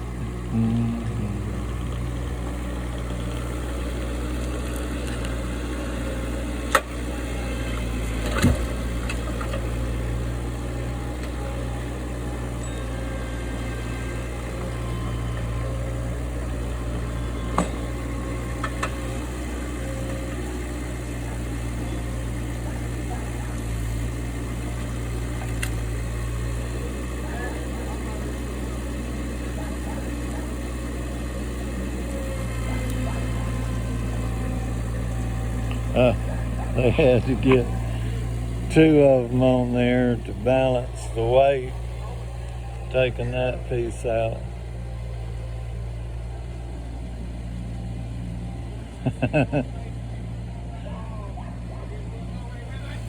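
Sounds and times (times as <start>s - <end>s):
machinery engine running: 0.0s - 53.0s.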